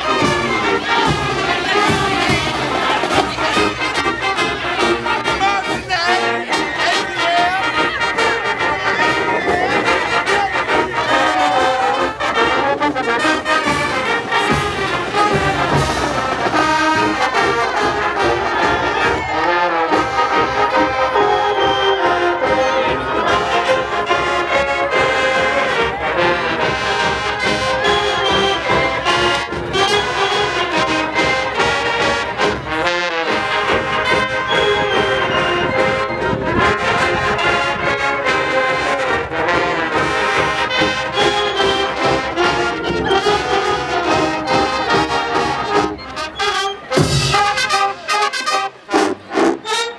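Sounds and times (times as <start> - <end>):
marching band playing: 0.0 - 49.9.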